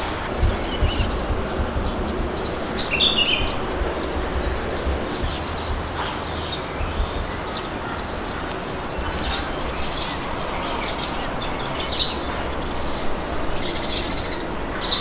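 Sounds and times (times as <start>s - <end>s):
birds chirping: 0.0s - 15.0s
wind blowing with low rumble: 0.0s - 15.0s.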